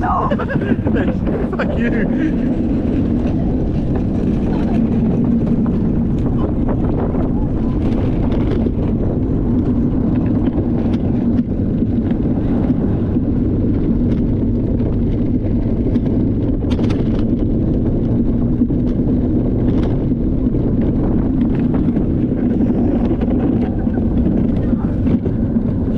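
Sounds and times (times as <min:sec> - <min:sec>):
cart rattling over bumps: 0:00.0 - 0:25.9
wheels rumbling on concrete: 0:00.0 - 0:25.9
wind buffeting microphone: 0:00.0 - 0:25.9.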